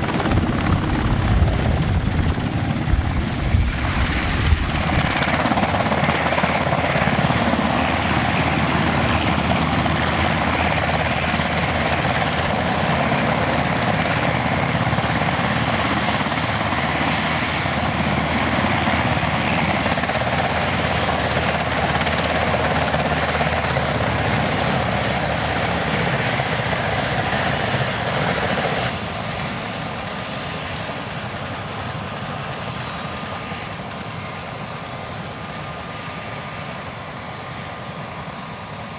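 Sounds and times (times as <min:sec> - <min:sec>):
helicopter rotor and engines: 0:00.0 - 0:38.9.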